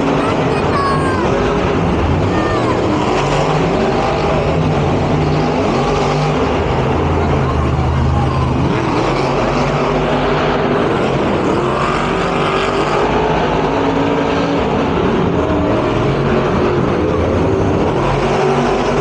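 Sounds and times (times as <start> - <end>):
truck engines revving loudly: 0.0 - 19.0.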